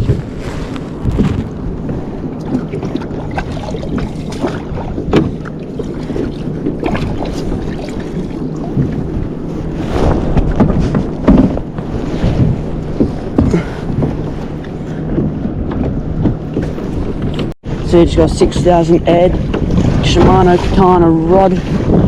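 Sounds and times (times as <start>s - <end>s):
knocks and splashes: 0.0s - 17.6s, 18.2s - 22.0s
water slapping kayak hull: 0.0s - 22.0s
wind buffeting microphone: 0.0s - 22.0s.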